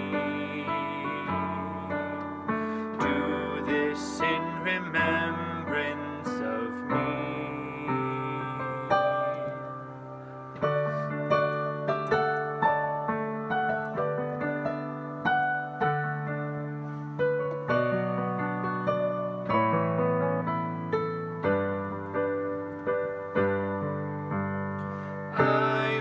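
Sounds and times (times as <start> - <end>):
piano melody: 0.0 - 26.0.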